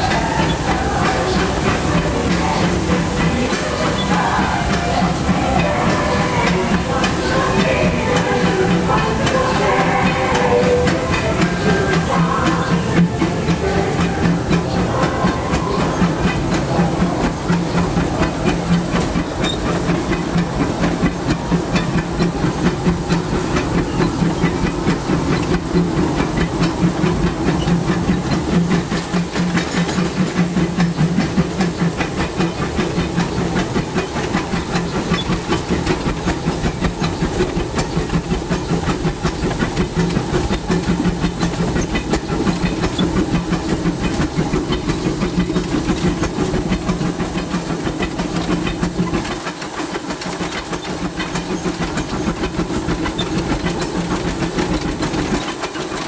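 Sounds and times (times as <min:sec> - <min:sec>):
fast rattle: 0:00.0 - 0:56.0
steam hissing: 0:00.0 - 0:56.0.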